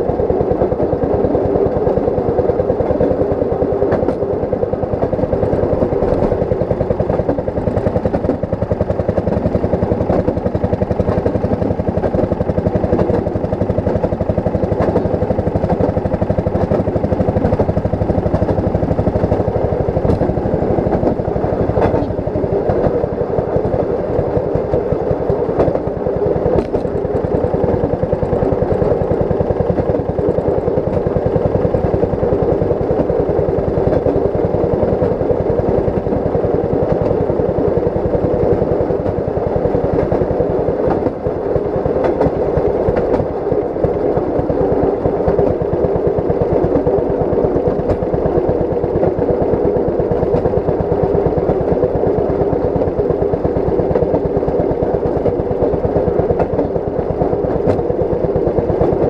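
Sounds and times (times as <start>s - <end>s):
small engine running: 0.0s - 59.0s
steel wheels clattering on rails: 0.0s - 59.0s.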